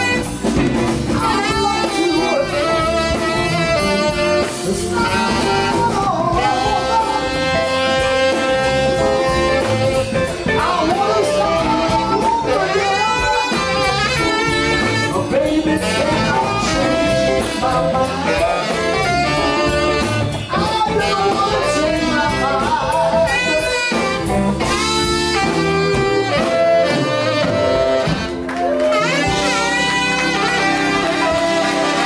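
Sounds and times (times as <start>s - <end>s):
soul blues band playing: 0.0s - 32.0s
tenor saxophone: 0.0s - 32.0s
man singing: 1.0s - 28.0s, 28.9s - 32.0s.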